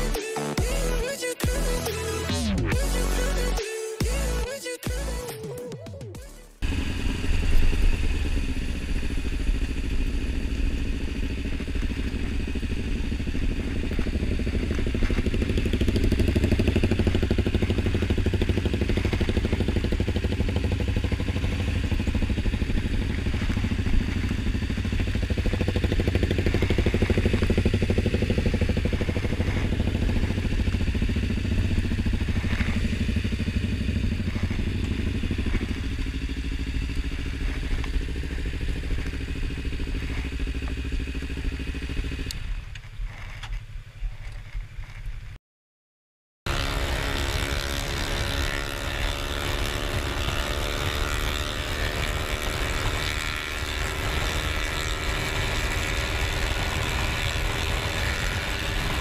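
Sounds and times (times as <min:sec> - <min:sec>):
motorcycle engine at low revs: 0:00.0 - 0:05.4, 0:06.5 - 0:45.4, 0:46.5 - 0:59.0.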